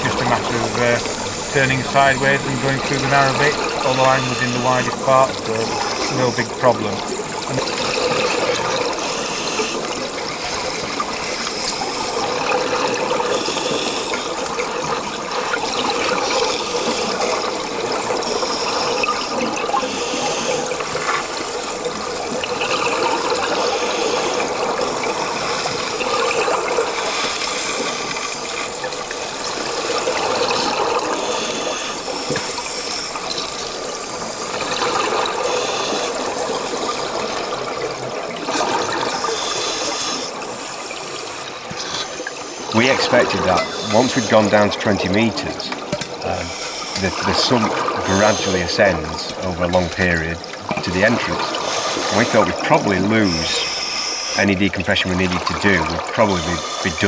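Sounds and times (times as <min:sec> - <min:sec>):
underwater bubbling and gurgling: 0:00.0 - 0:57.0.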